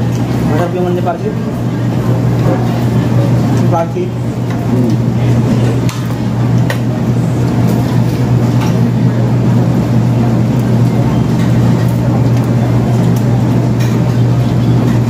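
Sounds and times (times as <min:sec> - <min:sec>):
murmur of voices: 0:00.0 - 0:15.0
steady low hum: 0:00.0 - 0:15.0.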